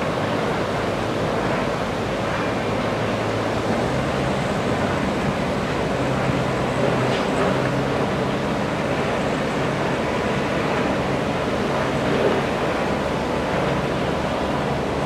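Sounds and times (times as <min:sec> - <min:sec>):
diesel engines and machinery droning: 0:00.0 - 0:15.0.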